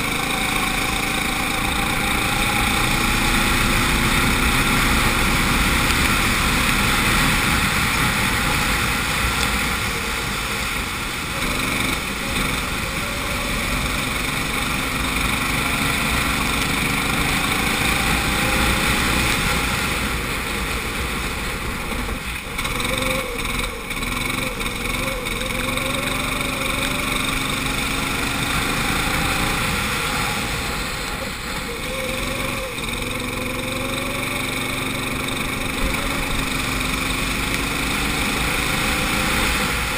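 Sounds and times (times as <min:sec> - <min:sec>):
go-kart engine revving: 0:00.0 - 0:39.9
steady rushing noise: 0:00.0 - 0:39.9.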